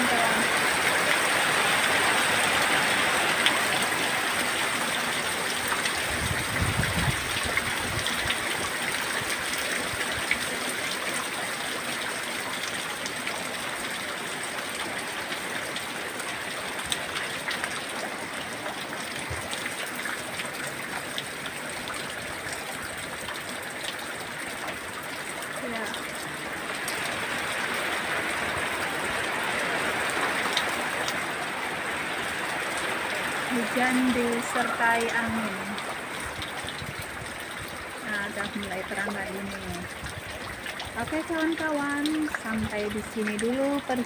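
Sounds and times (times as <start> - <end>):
heavy rain on leaves and roofs: 0.0 - 44.0.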